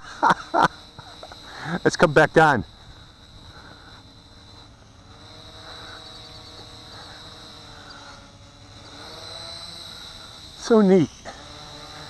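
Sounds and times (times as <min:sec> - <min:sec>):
toy drone motors humming: 0:00.0 - 0:12.0.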